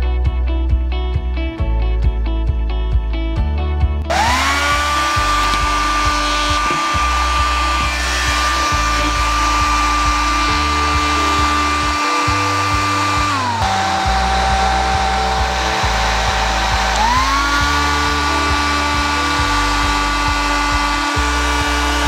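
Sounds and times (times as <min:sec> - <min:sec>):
background music: 0:00.0 - 0:22.0
hair dryer motor whine: 0:04.1 - 0:22.0.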